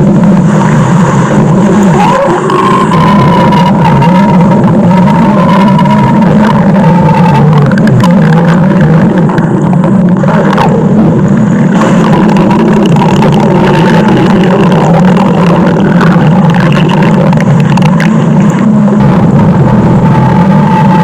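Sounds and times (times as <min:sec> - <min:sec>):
stomach growling: 0:00.0 - 0:21.0.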